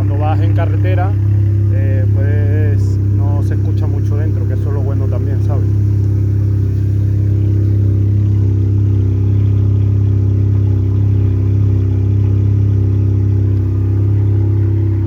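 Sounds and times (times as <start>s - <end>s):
car engine idling with loud drone: 0.0s - 15.0s.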